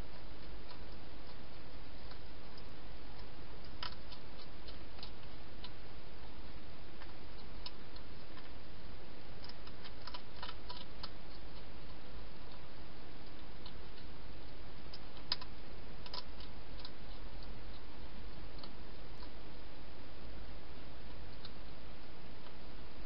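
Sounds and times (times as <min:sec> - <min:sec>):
hedgehog crunching food: 0:00.0 - 0:19.8.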